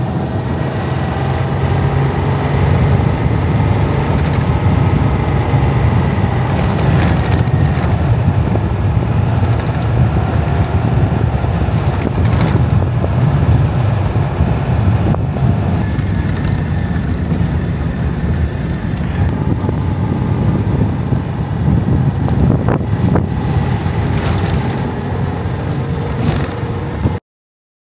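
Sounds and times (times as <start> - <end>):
car engine running: 0.0 - 27.2
wind noise on microphone: 0.0 - 27.2.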